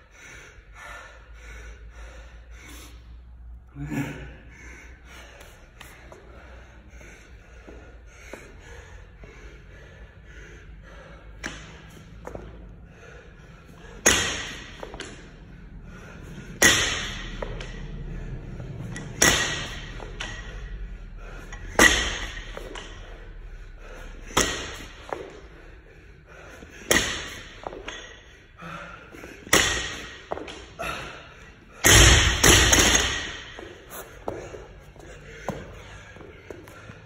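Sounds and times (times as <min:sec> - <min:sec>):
hard breathing: 0:00.0 - 0:37.0.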